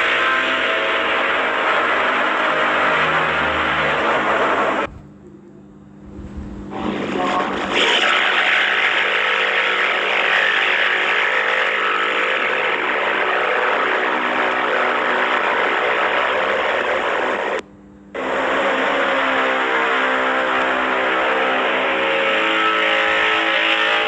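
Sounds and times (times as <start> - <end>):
dense blaring noise: 0.0 - 24.0.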